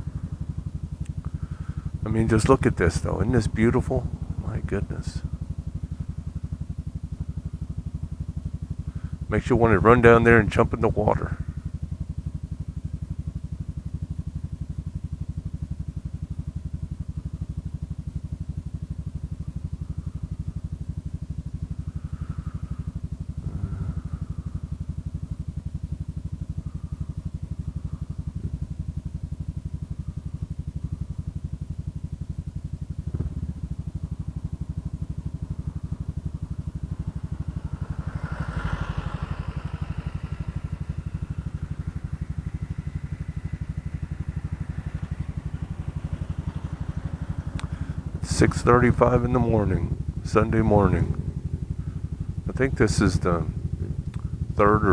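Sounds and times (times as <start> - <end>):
scooter engine idling: 0.0 - 54.9.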